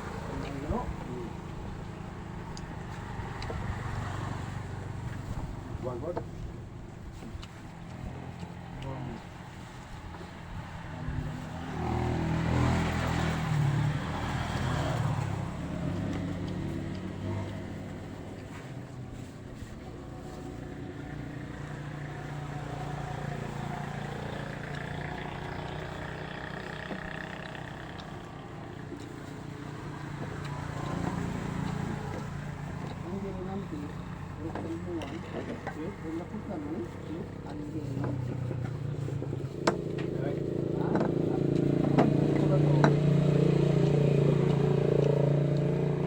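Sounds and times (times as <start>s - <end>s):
road noise: 0.0s - 46.0s
vehicle engine running: 0.0s - 46.0s.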